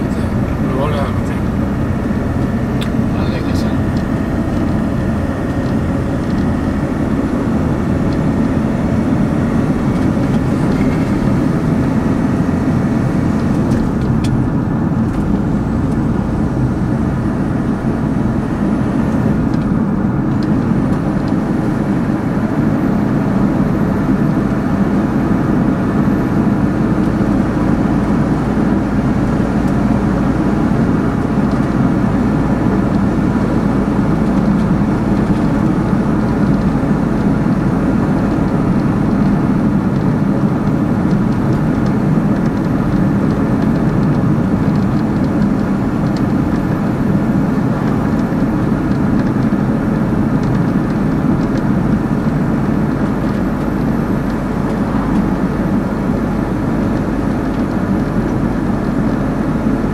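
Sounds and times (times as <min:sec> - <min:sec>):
vehicle road and engine noise: 0:00.0 - 0:59.9.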